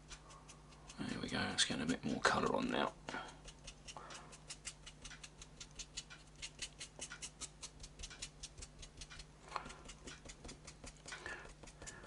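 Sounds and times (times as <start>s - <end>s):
paintbrush scratchy strokes: 0.0s - 12.0s.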